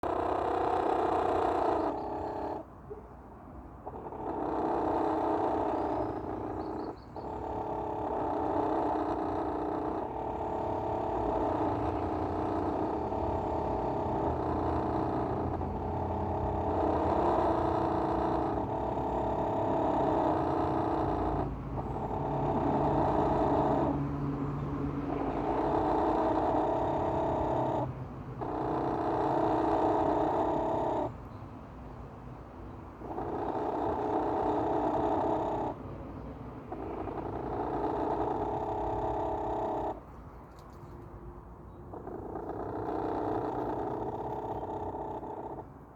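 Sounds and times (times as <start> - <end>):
chickens droning call: 0.0 - 2.7, 3.8 - 31.2, 33.0 - 35.8, 36.7 - 40.1, 41.9 - 45.7.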